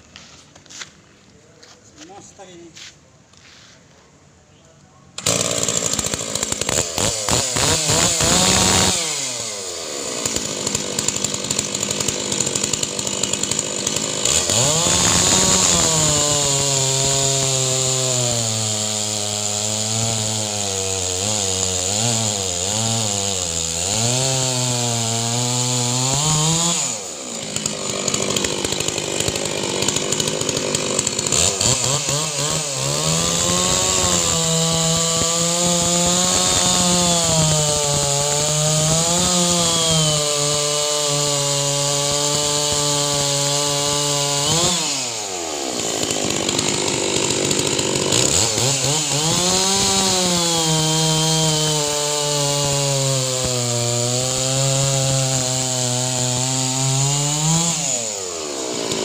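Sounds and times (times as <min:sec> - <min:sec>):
chainsaw cutting log: 0:05.1 - 0:59.0.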